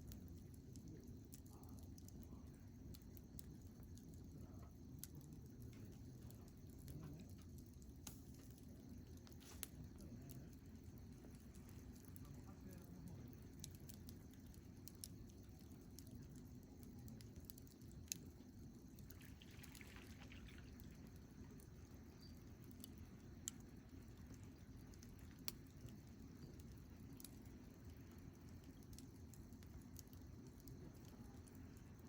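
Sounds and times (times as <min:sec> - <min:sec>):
campfire rumbling: 0:00.0 - 0:32.0
fire crackling and popping: 0:00.0 - 0:32.0.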